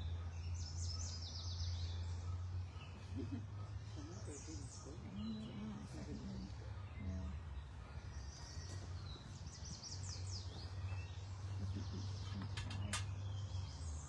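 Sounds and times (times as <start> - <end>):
low outdoor rumble: 0.0 - 14.0
songbirds singing: 0.0 - 14.0.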